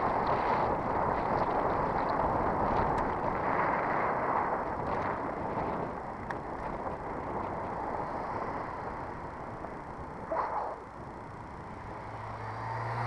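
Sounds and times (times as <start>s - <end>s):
wind rushing on microphone: 0.0s - 11.2s
bicycle tyres rolling on asphalt: 0.0s - 13.0s.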